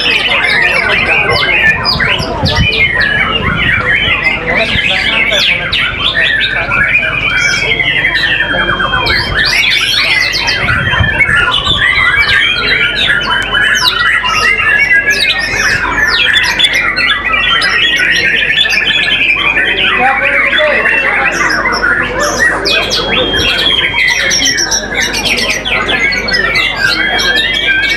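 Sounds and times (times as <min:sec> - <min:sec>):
birds singing whistles and trills: 0:00.0 - 0:27.9.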